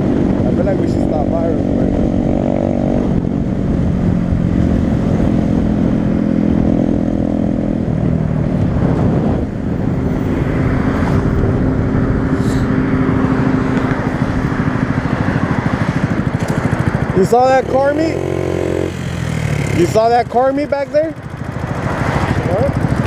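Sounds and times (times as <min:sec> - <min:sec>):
wind noise: 0:00.0 - 0:19.7
motorcycle engine running: 0:00.0 - 0:23.0.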